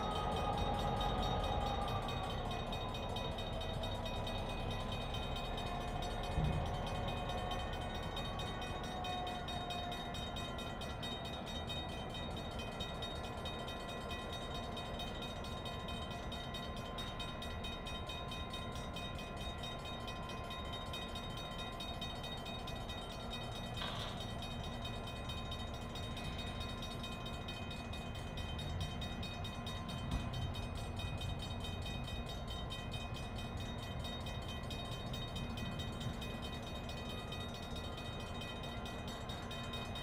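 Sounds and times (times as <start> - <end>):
diesel locomotive running: 0.0 - 40.0.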